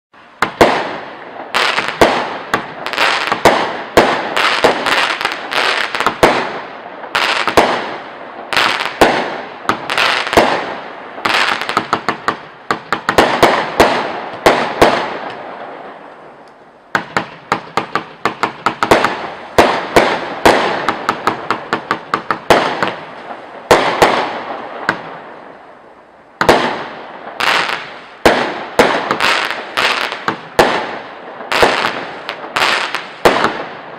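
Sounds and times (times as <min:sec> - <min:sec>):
firework bangs: 0:00.2 - 0:33.9.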